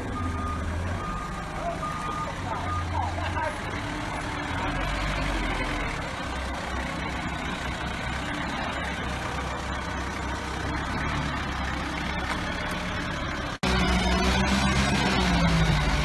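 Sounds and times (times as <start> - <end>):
forklift engine running: 0.0 - 16.0.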